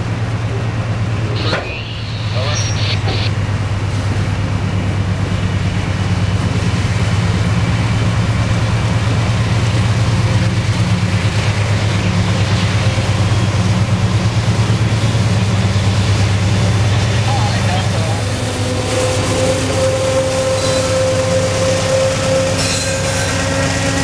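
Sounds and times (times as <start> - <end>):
diesel locomotive engine droning: 0.0 - 24.0.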